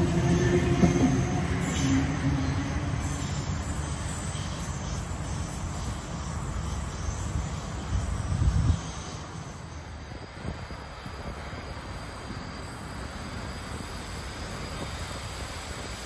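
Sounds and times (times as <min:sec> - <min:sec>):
faint train whine: 0:00.0 - 0:16.0
train wheels rumbling on rails: 0:00.0 - 0:16.0.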